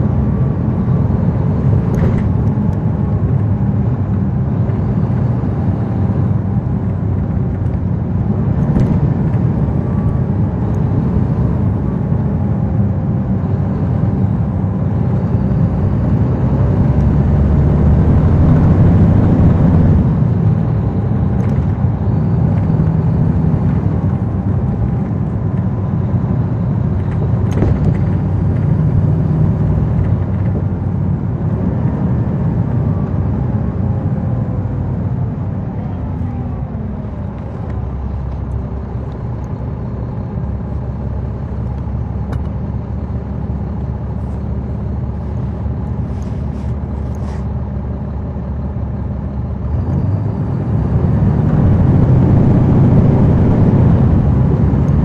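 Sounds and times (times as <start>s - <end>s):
bus diesel engine running: 0.0s - 55.0s
road noise: 0.0s - 55.0s.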